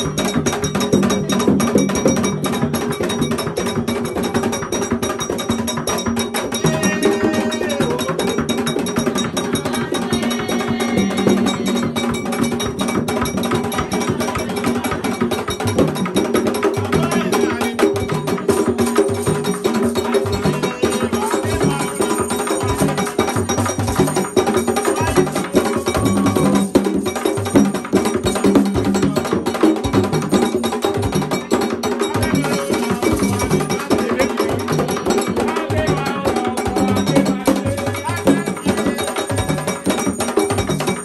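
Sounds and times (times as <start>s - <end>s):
hand drums beating: 0.0s - 41.0s
sharp clacking percussion: 0.0s - 41.0s
voices singing: 6.2s - 41.0s.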